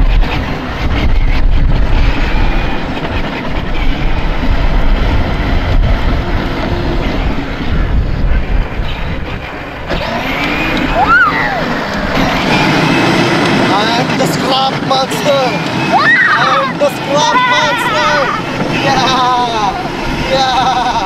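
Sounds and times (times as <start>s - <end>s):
toy motorcycle rumbling on pavement: 0.0s - 21.0s
wind buffeting microphone: 0.0s - 21.0s.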